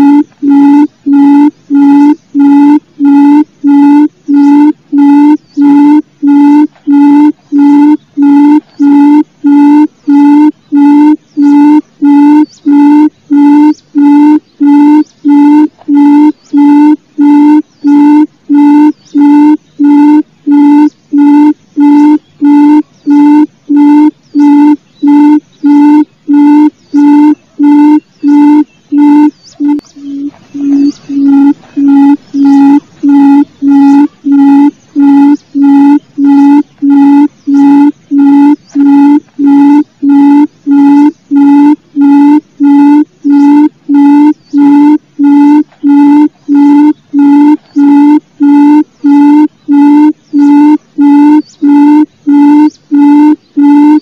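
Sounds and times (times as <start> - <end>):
bird low hooting call: 0.0 - 54.0.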